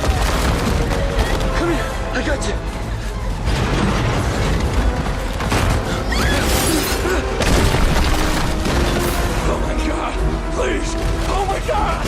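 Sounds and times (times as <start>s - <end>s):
dramatic film score: 0.0s - 12.0s.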